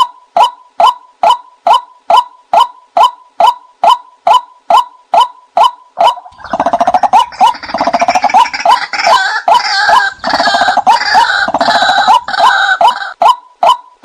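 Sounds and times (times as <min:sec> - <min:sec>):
sharp kwak bird calls: 0:00.0 - 0:14.0.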